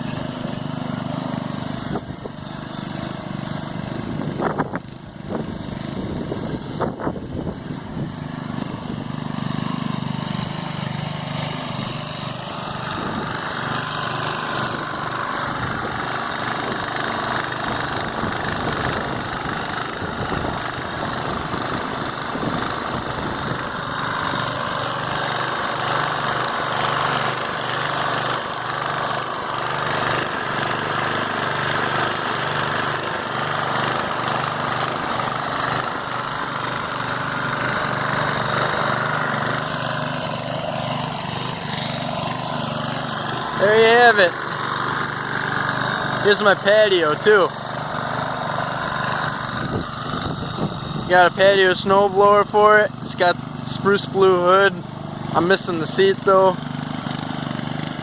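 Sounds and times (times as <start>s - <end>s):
small gasoline engine running: 0.0s - 58.0s.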